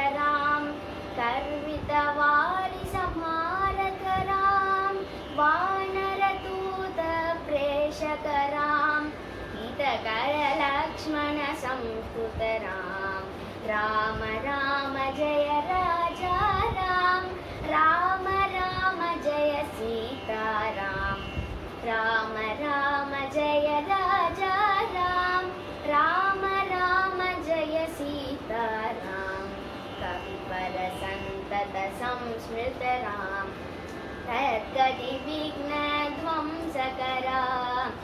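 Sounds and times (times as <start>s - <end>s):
girl singing solo: 0.0s - 38.0s.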